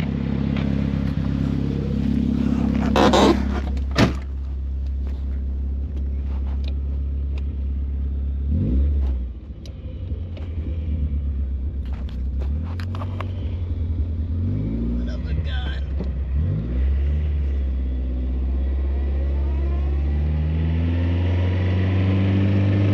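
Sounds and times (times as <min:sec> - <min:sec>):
car engine running: 0:00.0 - 0:21.6.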